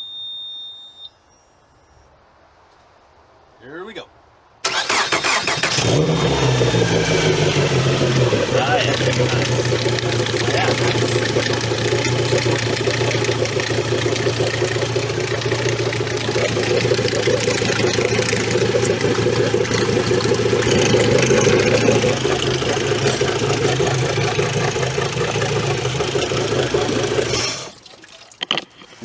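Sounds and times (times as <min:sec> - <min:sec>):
outboard motor idling: 0:04.6 - 0:29.0.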